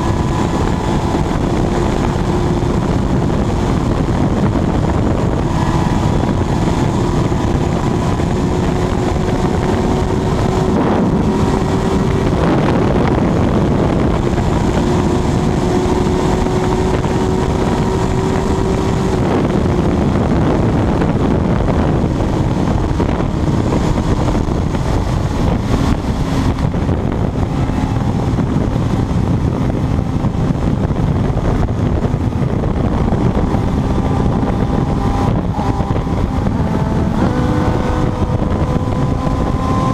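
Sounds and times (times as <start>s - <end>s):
motorcycle engine at top speed: 0.0s - 39.9s
wind noise on microphone: 0.0s - 39.9s.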